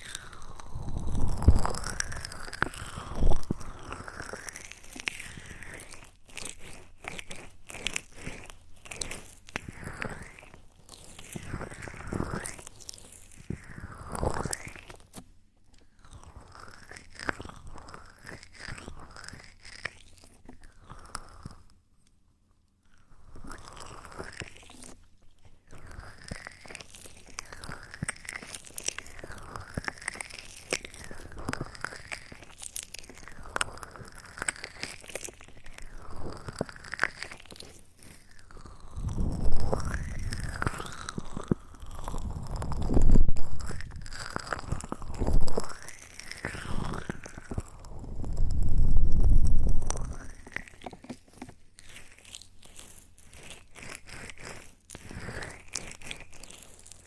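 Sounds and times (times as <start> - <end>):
crunchy rubbing on microphone: 0.0 - 15.3, 23.3 - 57.0.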